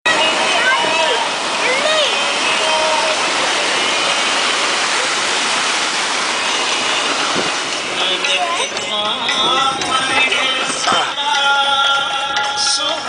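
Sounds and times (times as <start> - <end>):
rushing water roar: 0.1 - 13.0.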